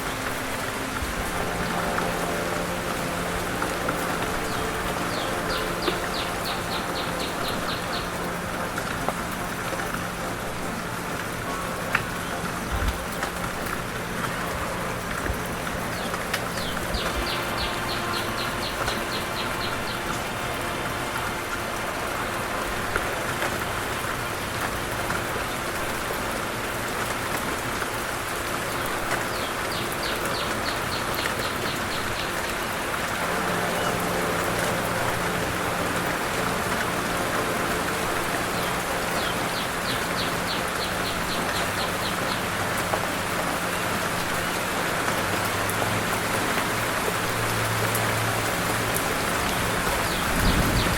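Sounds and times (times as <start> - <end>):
rain-like hiss: 0.0 - 50.9.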